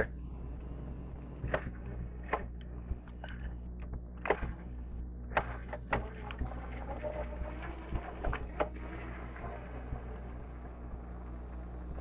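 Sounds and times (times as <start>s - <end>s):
electric dirt bike motor hum: 0.0s - 12.0s.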